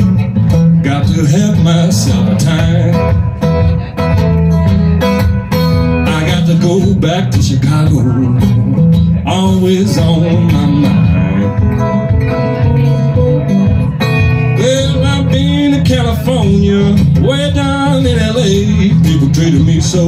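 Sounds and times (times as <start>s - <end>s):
acoustic guitar blues: 0.0s - 20.0s.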